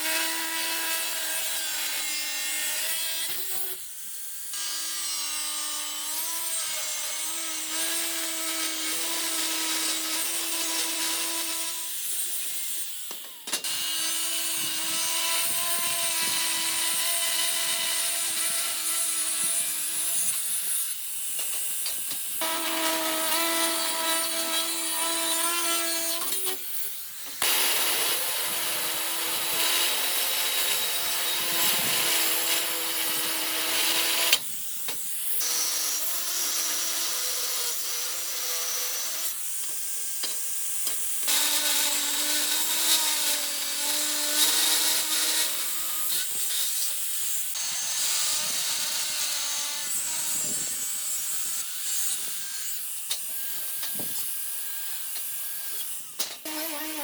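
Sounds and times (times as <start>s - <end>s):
power tool grinding: 6.2s - 39.4s, 40.4s - 57.0s.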